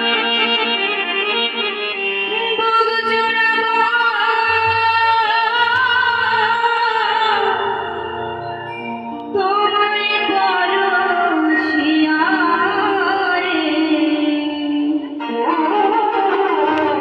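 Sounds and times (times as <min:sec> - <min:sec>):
keyboard accompaniment: 0:00.0 - 0:17.0.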